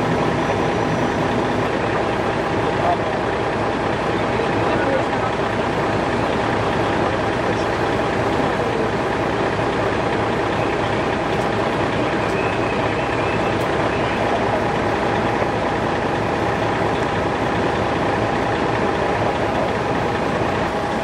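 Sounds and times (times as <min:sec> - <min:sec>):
fire engine rumbling: 0:00.0 - 0:21.0.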